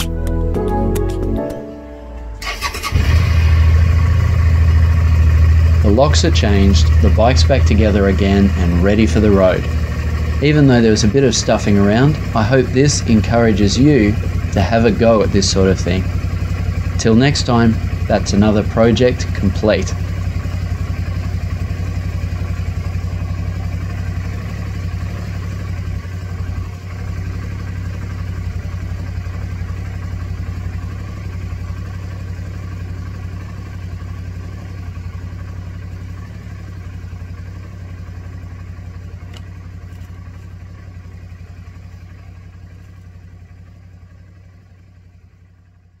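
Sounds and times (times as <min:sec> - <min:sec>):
motorcycle engine idling: 0:02.4 - 0:46.0.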